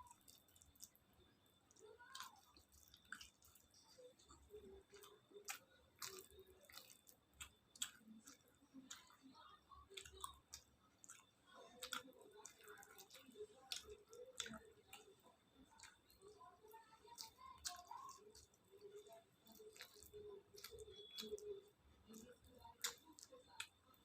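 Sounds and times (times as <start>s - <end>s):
chewing with mouth clicks: 0.0s - 1.0s, 1.6s - 24.0s.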